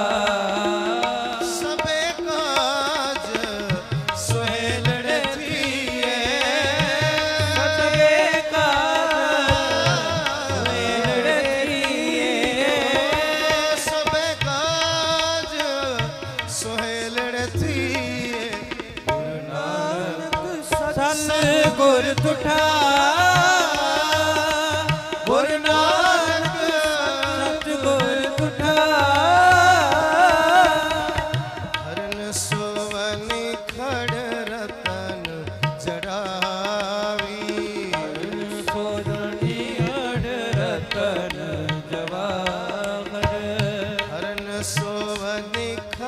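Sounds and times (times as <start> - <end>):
harmonium: 0.0 - 46.0
men singing devotional melody: 0.0 - 46.0
tabla strokes: 0.0 - 46.0.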